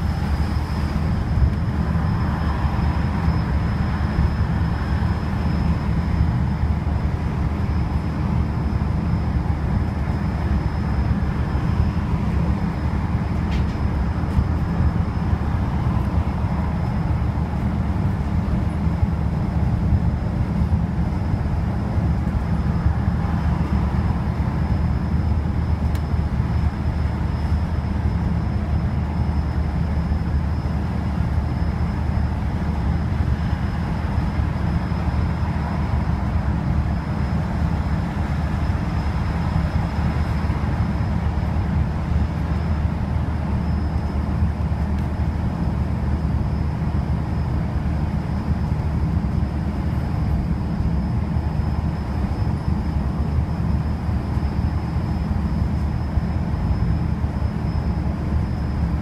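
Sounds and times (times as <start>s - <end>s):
bus engine and road drone: 0.0s - 59.0s
faint high whine: 0.0s - 59.0s.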